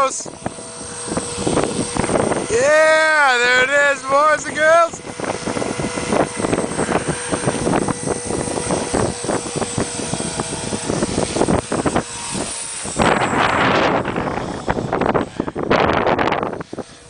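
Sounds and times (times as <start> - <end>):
rc helicopter motor whine: 0.0 - 17.0
wind buffeting microphone: 0.0 - 17.0.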